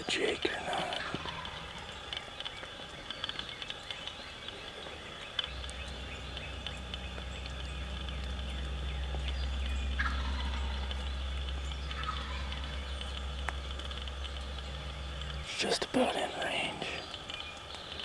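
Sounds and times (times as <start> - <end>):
low steady rumble: 0.0 - 18.0
small birds chirping: 0.0 - 18.0.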